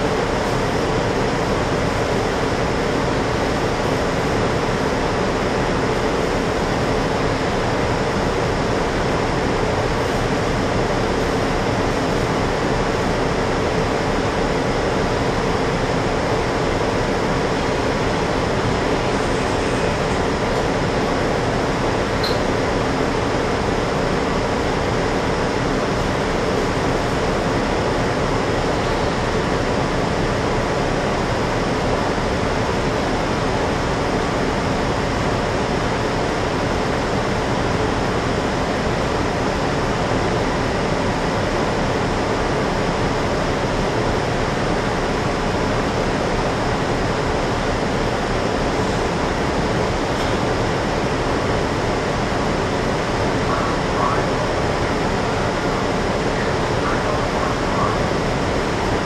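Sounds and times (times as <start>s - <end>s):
bus engine idling hum and hiss: 0.0s - 59.0s.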